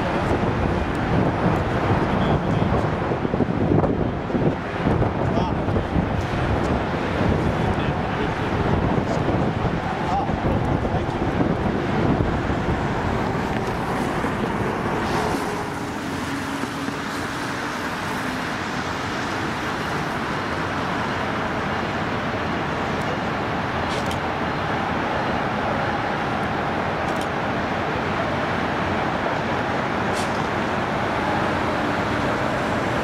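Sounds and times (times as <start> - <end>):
road traffic roar: 0.0 - 33.0.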